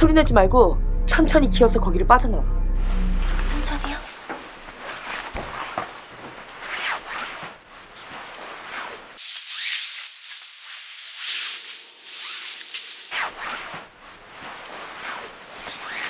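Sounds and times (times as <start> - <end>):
clothing rustling: 2.8 - 16.0.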